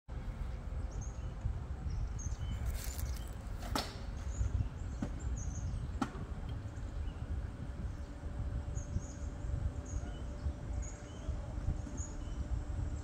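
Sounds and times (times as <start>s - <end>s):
steady low rumble: 0.1s - 13.0s
small birds chirping: 0.5s - 13.0s.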